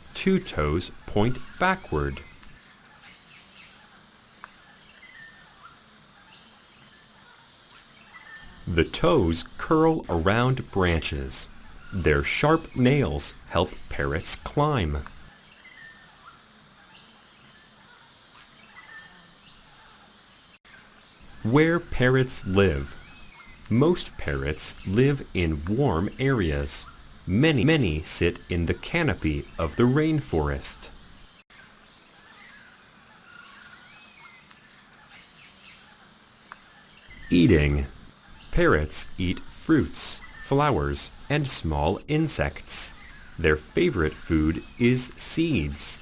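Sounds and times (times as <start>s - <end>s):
distant bird calls: 0.0s - 46.0s
steady hiss: 0.0s - 46.0s.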